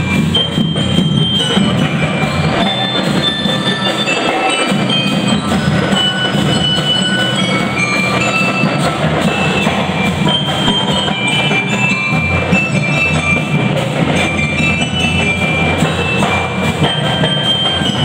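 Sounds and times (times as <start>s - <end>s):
bell-like mallet percussion melody: 0.0s - 18.0s
marching drums: 0.0s - 18.0s.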